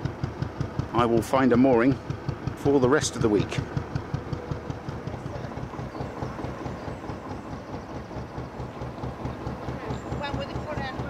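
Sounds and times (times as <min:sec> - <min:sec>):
diesel engine chugging: 0:00.0 - 0:11.0.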